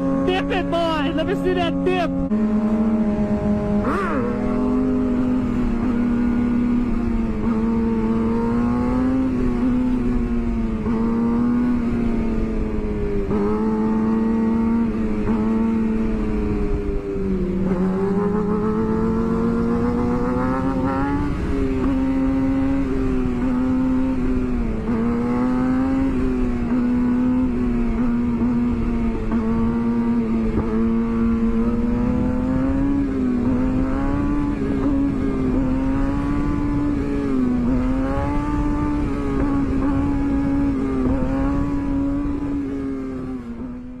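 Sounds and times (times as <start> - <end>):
motorcycle engine at high revs: 0.0 - 44.0
wind noise: 2.2 - 44.0.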